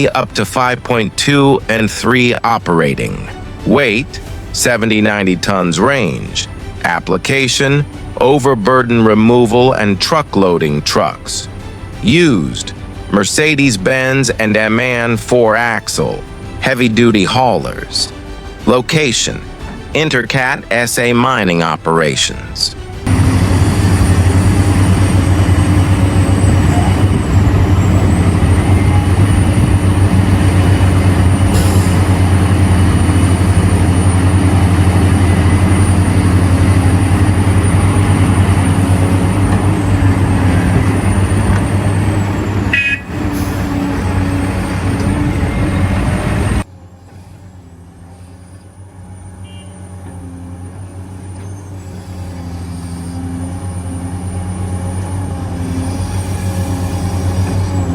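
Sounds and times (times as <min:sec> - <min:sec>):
heavy diesel engines humming: 0:00.0 - 0:57.9.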